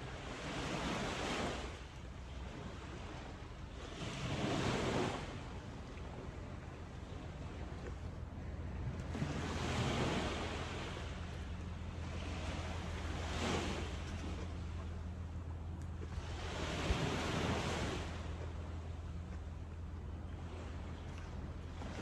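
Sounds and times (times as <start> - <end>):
low wind rumble on microphone: 0.0 - 22.0
ocean waves breaking: 0.0 - 22.0.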